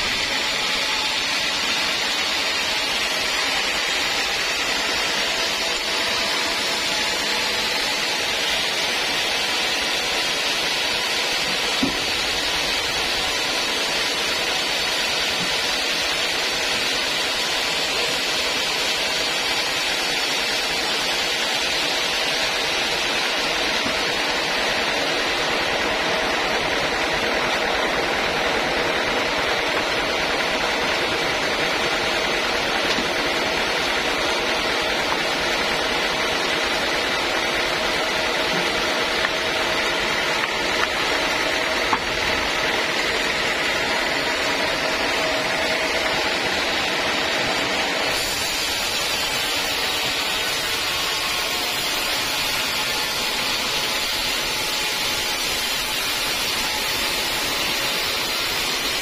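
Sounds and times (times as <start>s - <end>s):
band saw whining through log: 0.0s - 59.0s.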